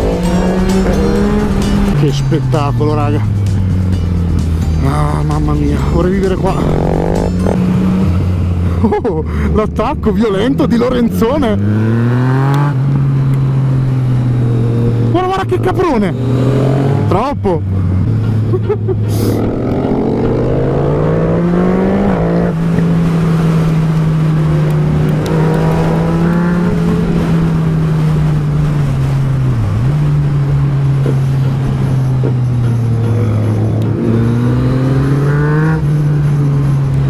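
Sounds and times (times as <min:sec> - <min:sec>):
motorcycle engine revving: 0:00.0 - 0:08.9, 0:10.6 - 0:37.0.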